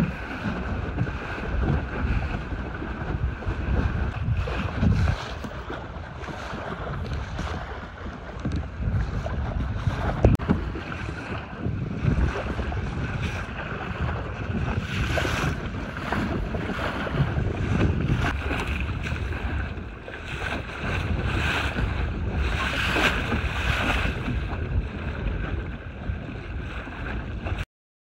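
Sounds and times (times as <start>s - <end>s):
water washing against hull: 0.0s - 27.6s
wind buffeting microphone: 0.0s - 27.6s.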